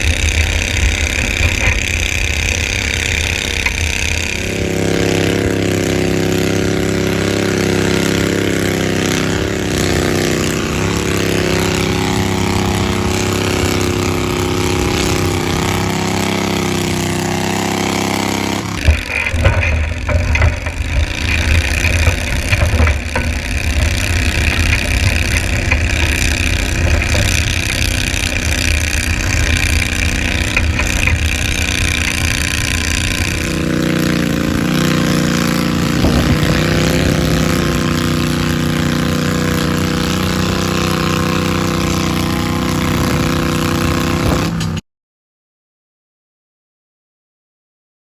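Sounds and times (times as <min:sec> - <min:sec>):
tractor engine running hard: 0:00.0 - 0:44.8.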